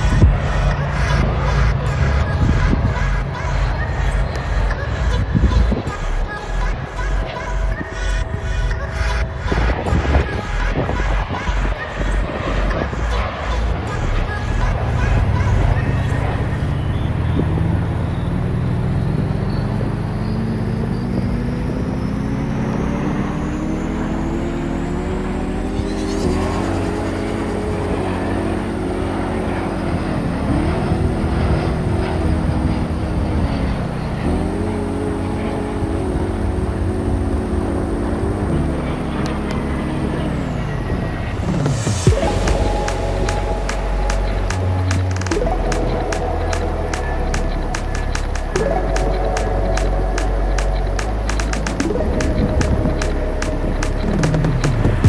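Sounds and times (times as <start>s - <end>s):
jet engines spooling up: 0.0s - 55.0s.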